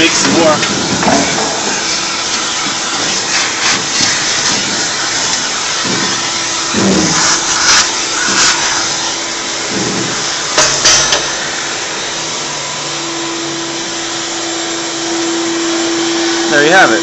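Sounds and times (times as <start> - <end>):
shop vacuum running: 0.0 - 17.0.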